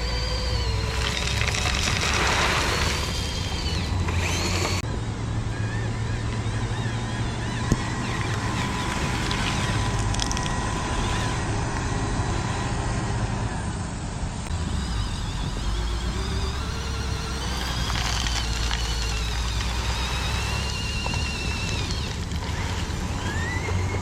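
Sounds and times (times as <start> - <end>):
electric motors whirring: 0.0 - 24.0
low drone: 0.0 - 24.0
wavering high whine: 0.0 - 24.0.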